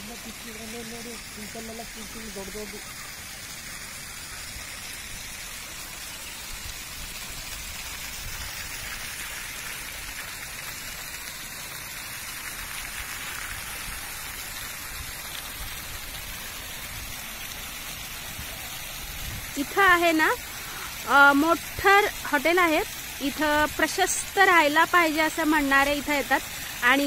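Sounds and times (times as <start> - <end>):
fountain splashing into pool: 0.0 - 27.0.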